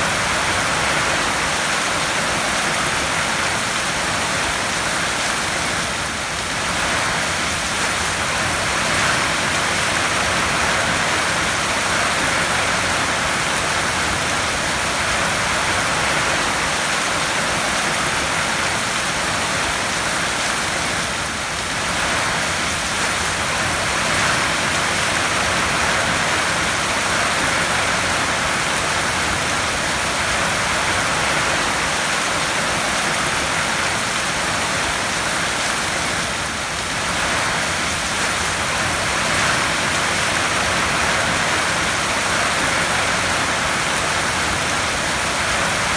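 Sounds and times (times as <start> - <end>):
heavy rain on a tin roof: 0.0 - 45.9.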